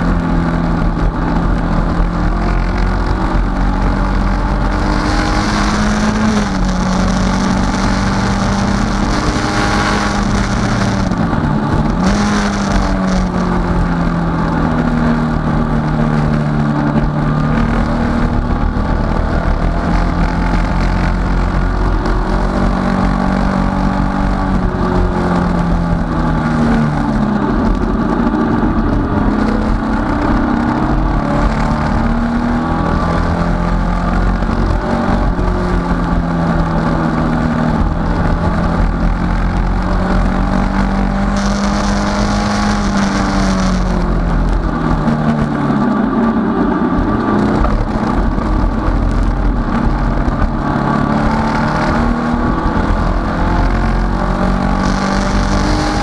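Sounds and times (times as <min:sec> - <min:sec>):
race car engine: 0:00.0 - 0:56.0
road and wind noise: 0:00.0 - 0:56.0.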